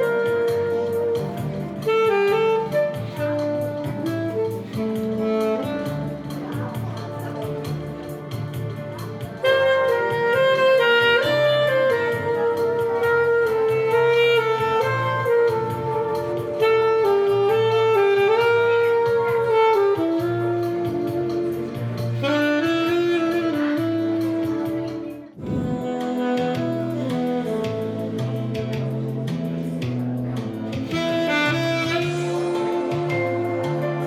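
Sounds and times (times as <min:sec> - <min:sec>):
jazz tune with saxophone lead: 0:00.0 - 0:34.0.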